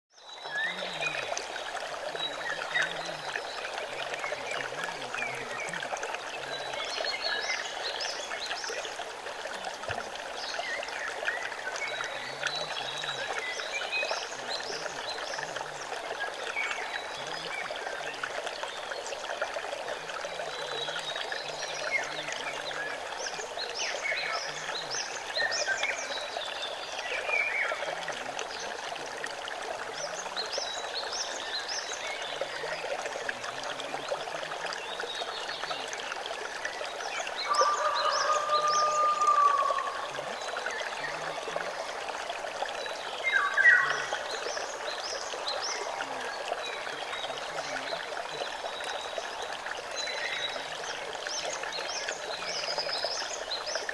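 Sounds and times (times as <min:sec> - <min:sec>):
stream splashing over rocks: 0:00.1 - 0:53.9.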